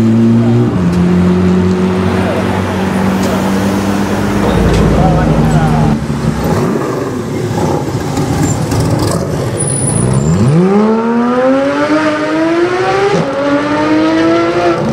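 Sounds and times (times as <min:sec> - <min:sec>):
car engine accelerating hard: 0:00.0 - 0:14.9
street noise: 0:00.0 - 0:14.9.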